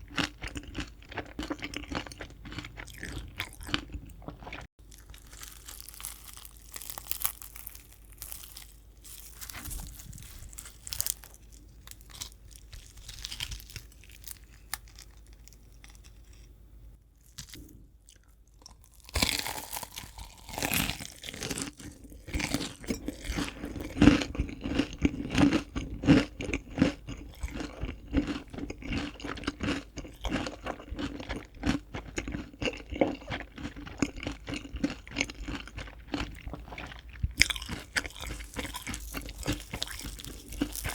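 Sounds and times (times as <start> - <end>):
crunchy chewing of fried chicken: 0.0 - 16.6, 17.2 - 40.9.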